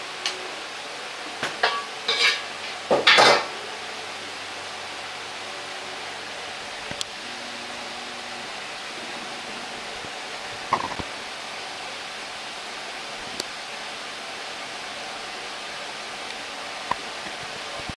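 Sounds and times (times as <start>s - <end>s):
restaurant kitchen rushing noise: 0.0s - 18.0s.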